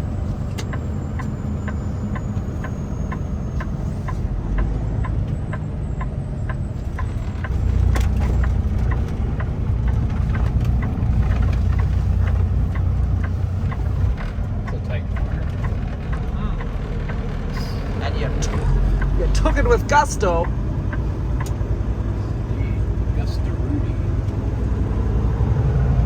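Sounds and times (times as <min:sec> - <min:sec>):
turn signal clicking: 0:00.0 - 0:22.2
truck diesel engine running: 0:00.0 - 0:26.0.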